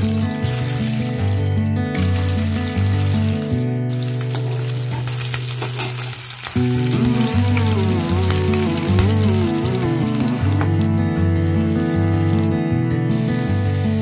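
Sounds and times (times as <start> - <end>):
background music: 0.0 - 14.0
hot oil sizzling in a pan: 0.0 - 14.0.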